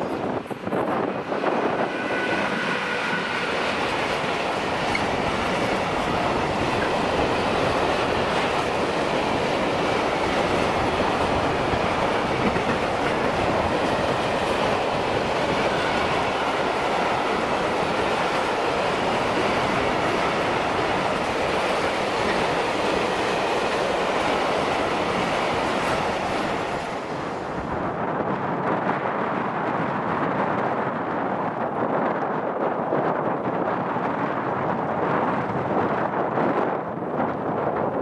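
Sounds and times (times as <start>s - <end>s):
train passing on rails: 0.0s - 38.0s.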